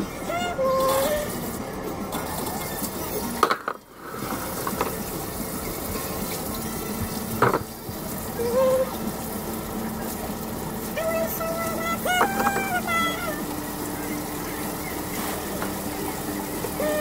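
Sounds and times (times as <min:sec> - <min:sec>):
water rushing into washing machine: 0:00.0 - 0:17.0.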